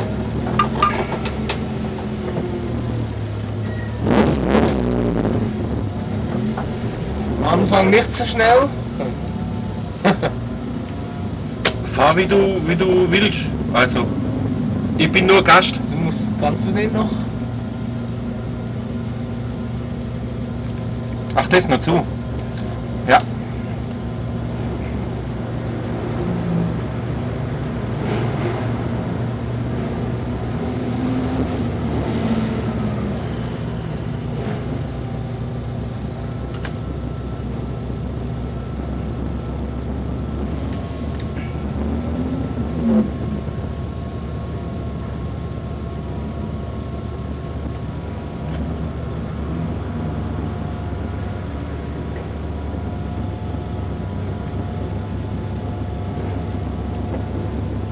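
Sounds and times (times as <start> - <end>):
car engine running inside cabin: 0.0 - 57.9.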